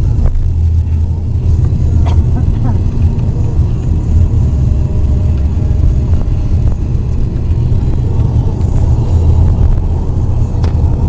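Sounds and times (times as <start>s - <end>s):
car interior engine and road noise: 0.0s - 11.0s.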